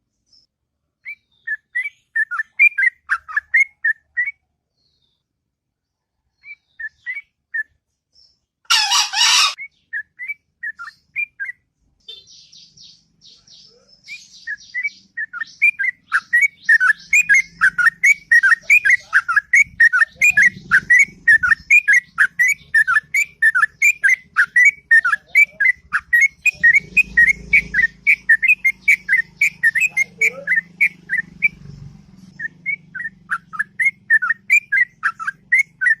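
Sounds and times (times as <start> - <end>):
bird chirps and whistled notes: 1.0 - 5.2, 8.7 - 36.0.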